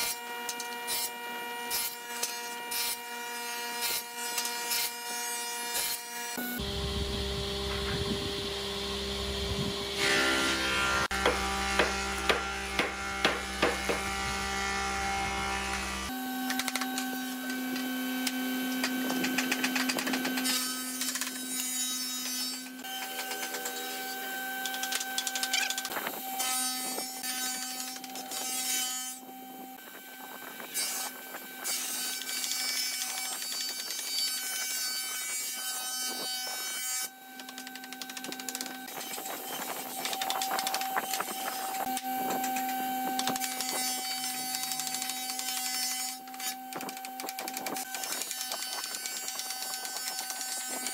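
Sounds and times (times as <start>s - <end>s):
mechanical hum: 0.0s - 50.9s.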